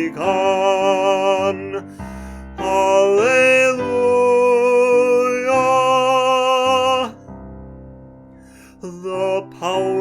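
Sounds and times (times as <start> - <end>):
man singing a hymn: 0.0 - 7.2, 8.8 - 10.0.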